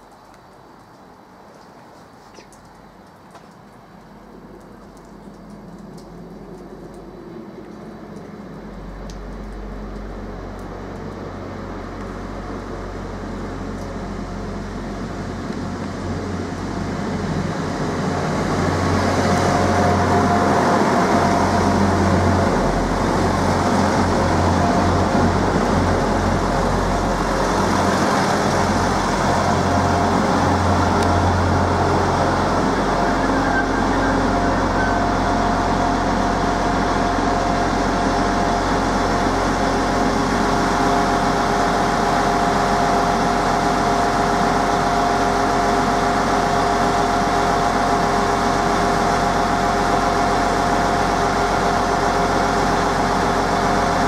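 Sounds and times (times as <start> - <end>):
diesel train passing: 5.4 - 54.0.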